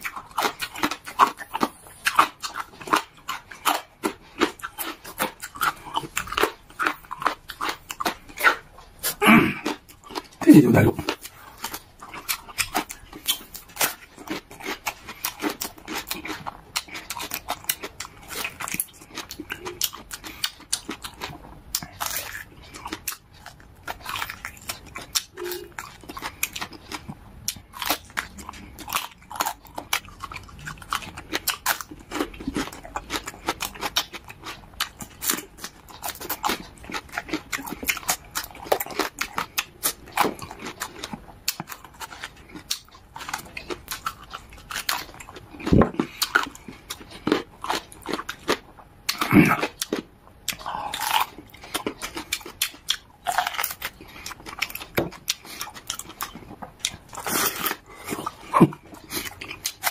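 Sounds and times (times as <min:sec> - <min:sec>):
wet chewing and smacking: 0:00.0 - 0:59.9.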